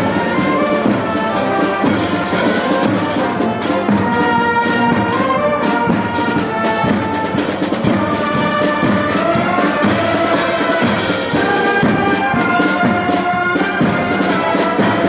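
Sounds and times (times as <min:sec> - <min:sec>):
military band playing: 0:00.0 - 0:15.0.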